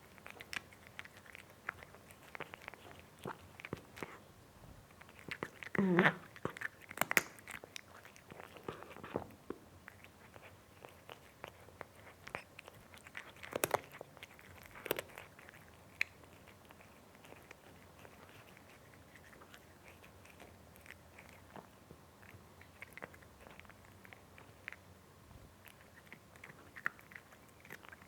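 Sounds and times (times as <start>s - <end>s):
cat crunching food: 0.0s - 28.0s.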